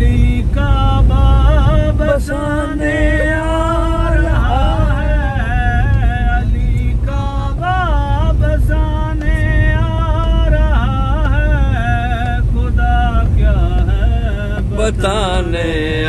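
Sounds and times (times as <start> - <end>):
car road rumble: 0.0 - 16.0
man singing devotional song: 0.0 - 16.0.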